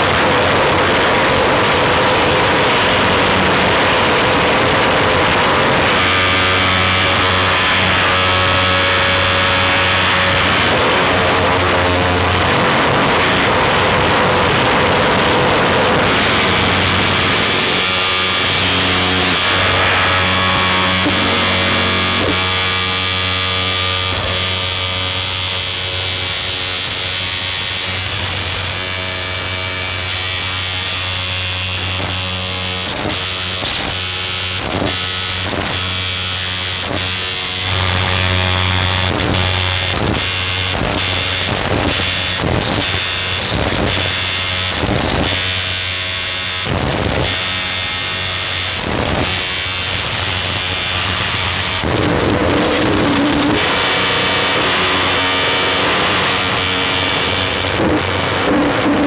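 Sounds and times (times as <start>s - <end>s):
electronic noise drone: 0.0s - 59.0s
irregular crackling bursts: 0.0s - 59.0s.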